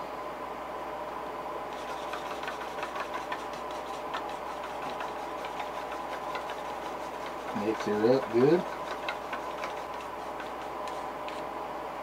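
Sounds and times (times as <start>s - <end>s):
room hum: 0.0s - 12.0s
paint mixing clicks and taps: 1.7s - 11.4s.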